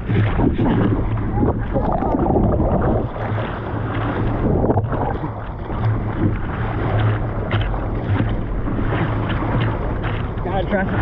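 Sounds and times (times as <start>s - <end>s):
water splashes: 0.0s - 11.0s
wind buffeting microphone: 0.0s - 11.0s.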